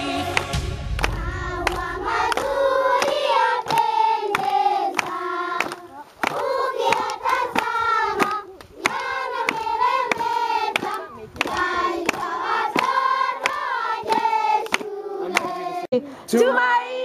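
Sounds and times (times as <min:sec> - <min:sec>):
hands clapping on a beat: 0:00.0 - 0:15.7
children singing together: 0:00.0 - 0:15.9.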